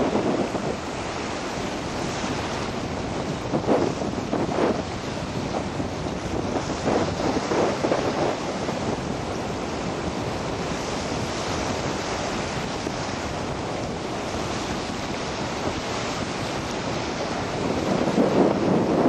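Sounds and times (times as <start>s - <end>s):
sea waves washing: 0.0s - 19.0s
wind on microphone: 0.0s - 19.0s.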